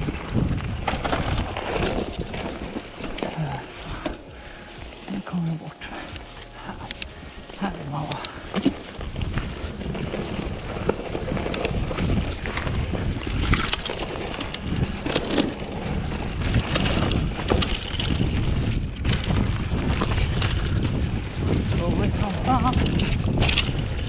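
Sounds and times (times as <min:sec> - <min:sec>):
bike clicks and rattles: 0:00.0 - 0:24.0
tyres rolling on trail: 0:00.0 - 0:24.0
wind on microphone: 0:00.0 - 0:24.0.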